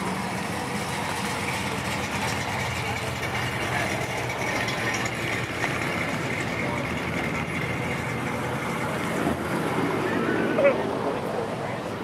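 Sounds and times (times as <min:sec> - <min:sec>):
car engines in traffic: 0:00.0 - 0:12.0.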